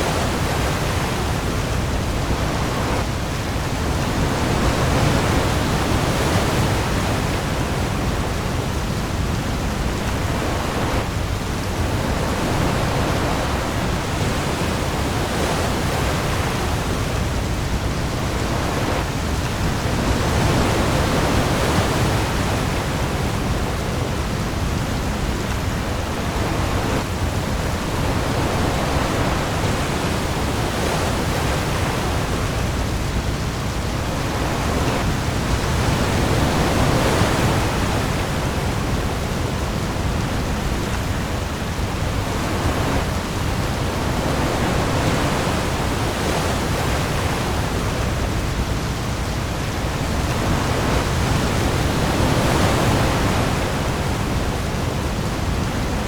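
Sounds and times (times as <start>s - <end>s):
heavy rain on the sea: 0.0s - 56.0s
waves swelling and easing: 0.0s - 56.0s.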